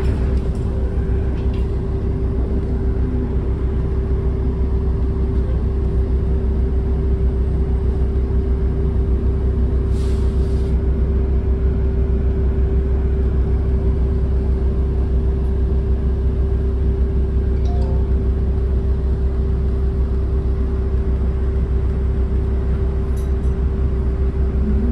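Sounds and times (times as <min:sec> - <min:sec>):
vehicle interior rumble: 0:00.0 - 0:24.9.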